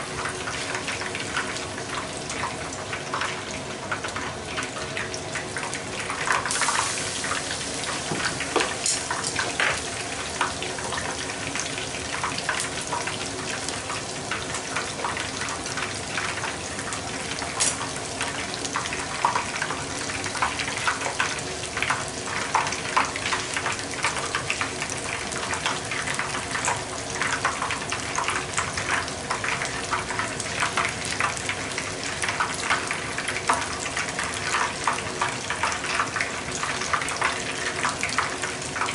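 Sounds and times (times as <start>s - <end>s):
oil sizzling and crackling: 0.0s - 38.9s.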